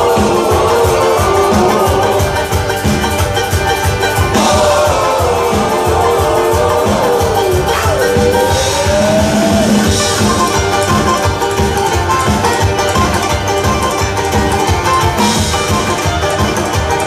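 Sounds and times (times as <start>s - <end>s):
live band playing: 0.0s - 17.0s
steady drum beat: 0.0s - 17.0s.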